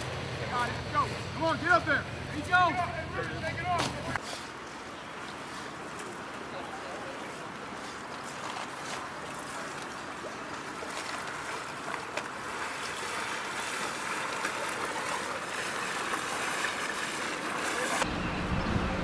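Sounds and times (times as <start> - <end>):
muddy water sloshing and splashing: 0.0 - 19.0.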